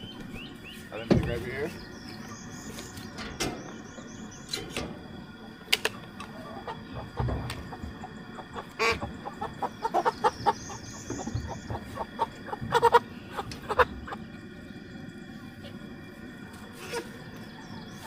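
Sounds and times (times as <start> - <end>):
chickens clucking and squawking: 0.0 - 18.0.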